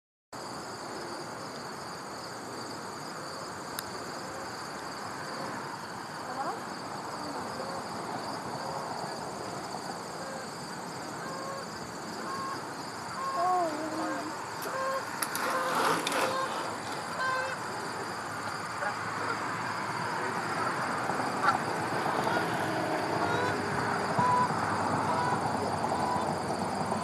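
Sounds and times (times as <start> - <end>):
faint outdoor background noise: 0.4 - 27.0
insects trilling: 0.4 - 27.0.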